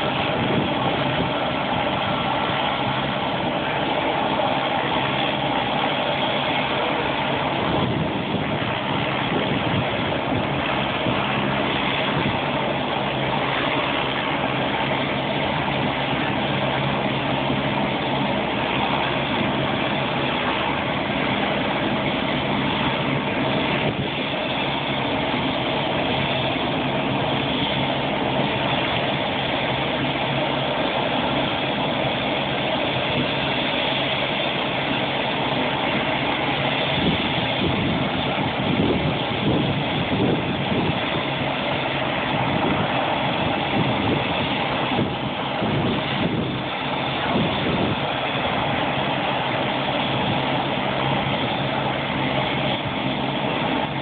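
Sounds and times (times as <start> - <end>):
helicopter engine and rotor idling: 0.0 - 54.0.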